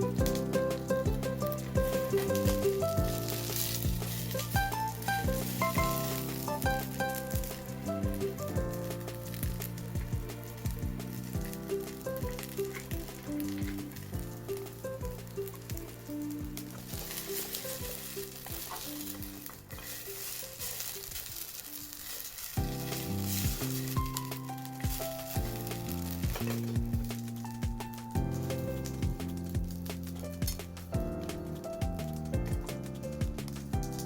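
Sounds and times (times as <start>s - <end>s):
low drum strokes: 0.0s - 20.6s, 22.6s - 34.0s
background music with beat: 0.0s - 21.5s, 22.6s - 34.0s
food sizzling: 0.0s - 34.0s.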